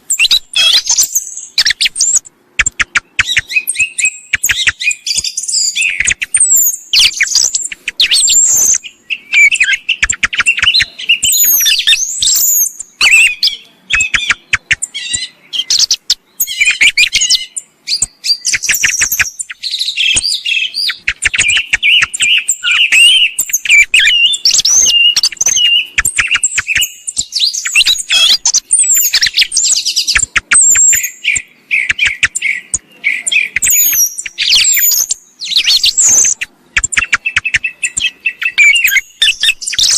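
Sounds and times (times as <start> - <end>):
song thrush singing and calling: 0.0 - 39.9.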